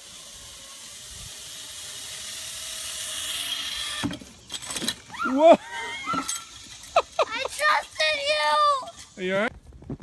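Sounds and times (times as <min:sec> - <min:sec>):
zipline trolley hissing on cable: 0:00.0 - 0:09.4.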